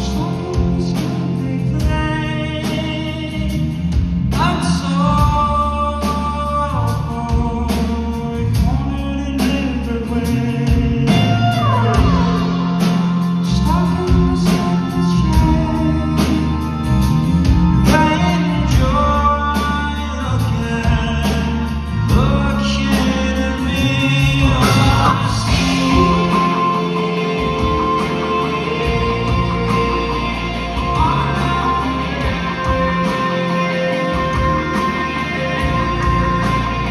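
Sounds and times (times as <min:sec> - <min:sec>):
rock band music with singing: 0:00.0 - 0:36.9.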